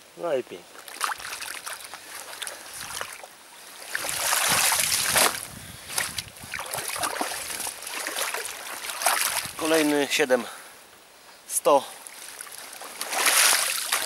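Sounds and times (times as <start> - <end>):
water splashing and sloshing: 0.7 - 10.2, 12.0 - 14.0.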